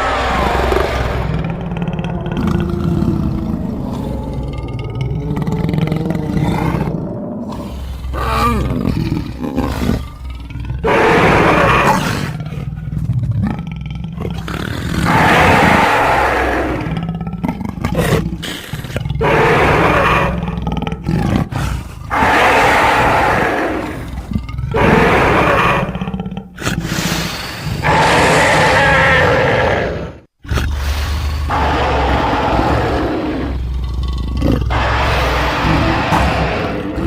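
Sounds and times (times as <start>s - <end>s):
giant cat creature roaring: 0.0s - 37.0s
low creature growls: 0.0s - 37.0s.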